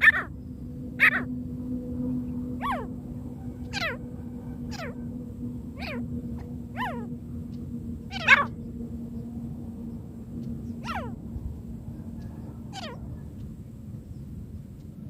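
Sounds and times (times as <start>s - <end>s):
francolin calling: 0.0s - 15.0s
steady low hum: 0.0s - 15.0s.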